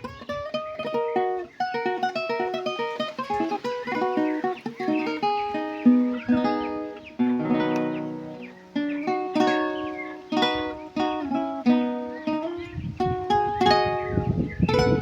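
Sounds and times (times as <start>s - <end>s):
solo guitar playing: 0.0s - 15.0s.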